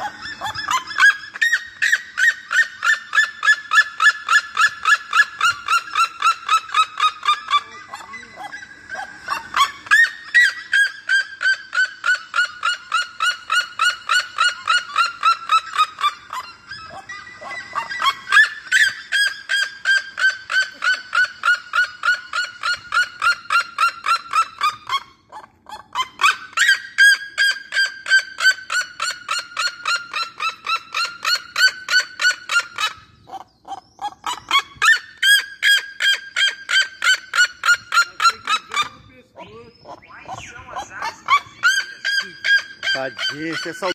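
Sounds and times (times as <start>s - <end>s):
bird yelping song: 0.0s - 43.9s.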